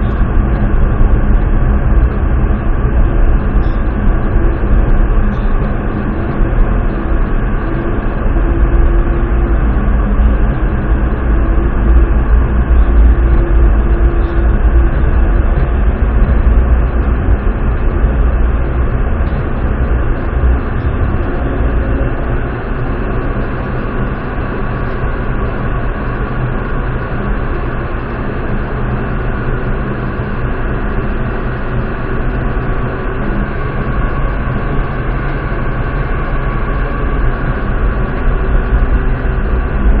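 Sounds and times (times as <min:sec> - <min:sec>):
steady whining tones: 0:00.0 - 0:40.0
train rumbling on rails: 0:00.0 - 0:40.0.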